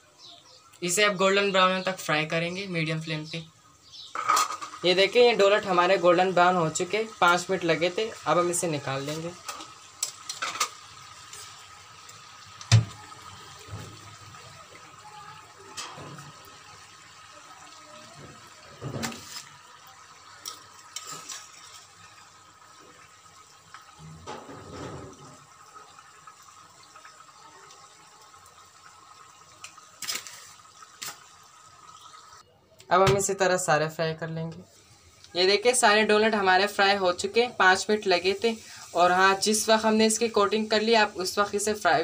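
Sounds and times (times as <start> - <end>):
oil bubbling and sizzling: 0.0 - 32.5, 34.4 - 42.0.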